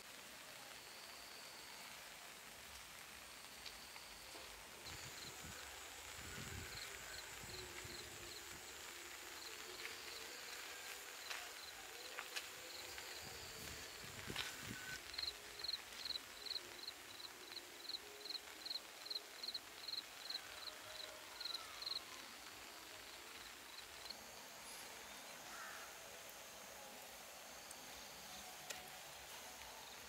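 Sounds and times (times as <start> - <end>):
faint outdoor hiss: 0.0 - 30.0.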